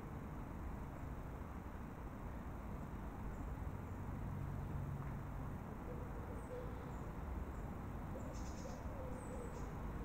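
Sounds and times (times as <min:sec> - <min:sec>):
low background hiss and rumble: 0:00.0 - 0:10.0.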